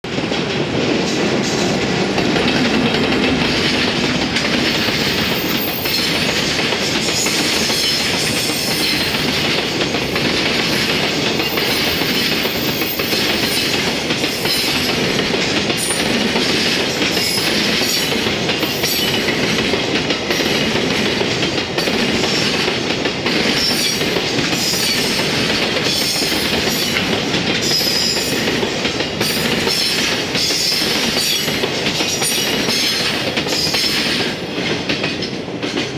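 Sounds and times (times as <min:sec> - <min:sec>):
freight train wheels clattering: 0:00.0 - 0:35.9.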